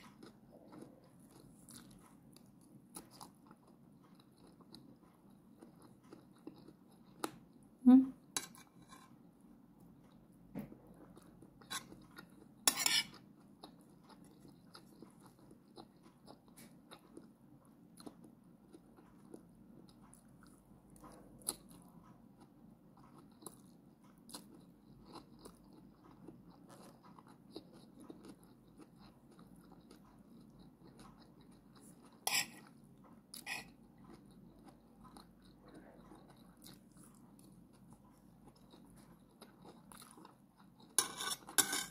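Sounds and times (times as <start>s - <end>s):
chewing and mouth sounds: 0.0s - 7.6s, 10.1s - 41.6s.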